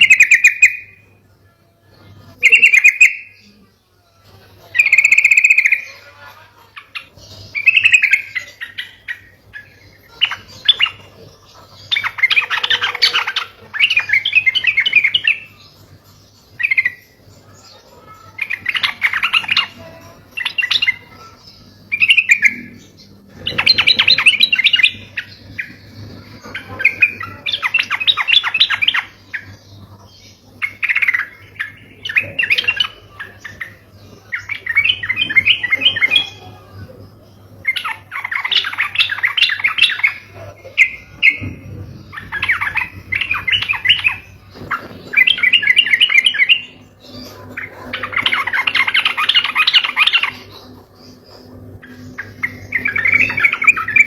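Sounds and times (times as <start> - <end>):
bulbul song with chattering: 0.0 - 54.0.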